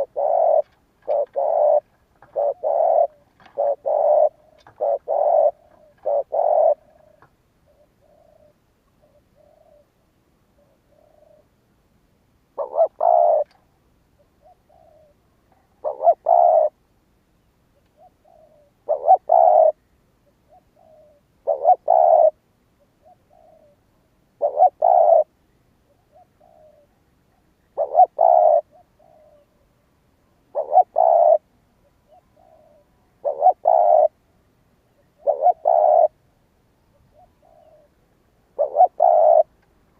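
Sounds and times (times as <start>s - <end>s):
dove cooing: 0.0s - 11.5s, 12.6s - 13.6s, 14.2s - 16.8s, 17.9s - 27.0s, 27.6s - 29.8s, 30.4s - 34.2s, 34.9s - 36.2s, 36.9s - 39.6s.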